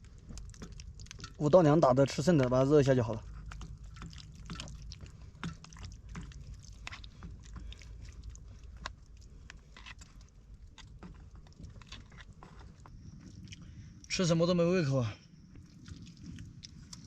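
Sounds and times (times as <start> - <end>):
person chewing food: 0.0 - 1.5, 3.1 - 14.1, 15.5 - 17.0.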